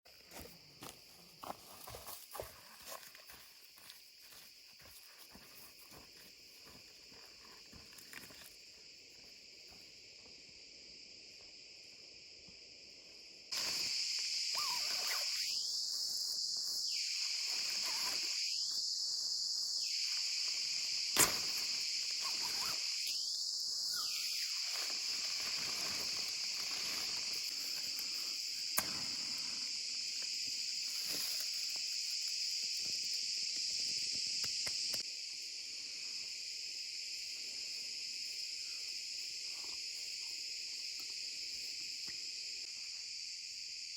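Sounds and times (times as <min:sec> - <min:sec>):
chorus of crickets: 0:00.1 - 0:43.9.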